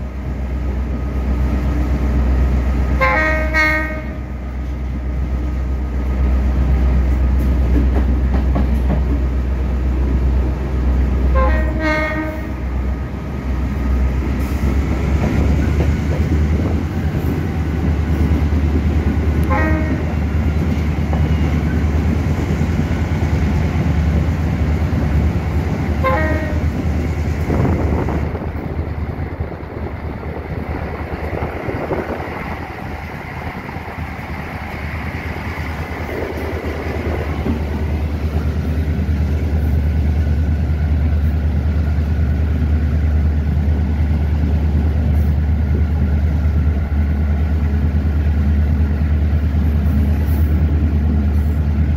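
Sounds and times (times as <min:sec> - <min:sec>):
locomotive engine drone: 0:00.0 - 0:51.9
wheel and rail noise: 0:03.8 - 0:51.9.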